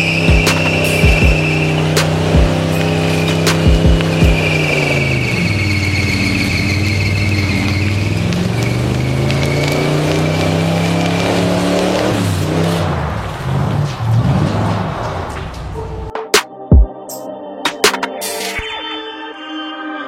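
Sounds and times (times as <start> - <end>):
car engine running under load: 0.0 - 16.1.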